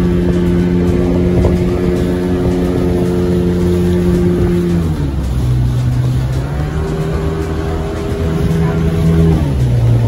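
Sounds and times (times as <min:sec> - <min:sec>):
speedboat motor running: 0:00.0 - 0:10.0
water around hull: 0:00.0 - 0:10.0.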